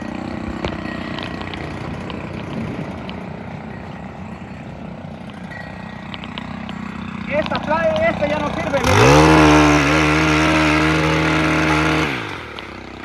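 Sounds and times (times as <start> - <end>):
two-stroke engine idling: 0.0 - 13.0.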